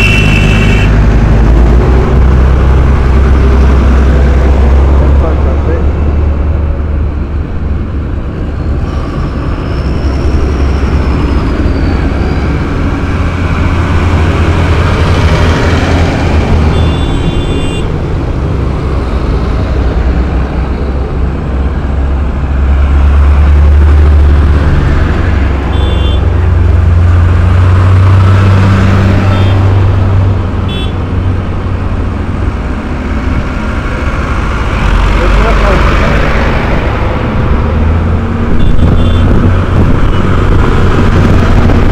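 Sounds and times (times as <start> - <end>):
tractor diesel engines rumbling: 0.0 - 41.9.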